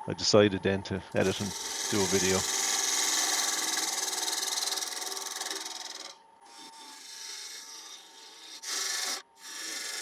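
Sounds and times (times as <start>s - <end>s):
lathe tool scraping wood: 1.2s - 10.0s.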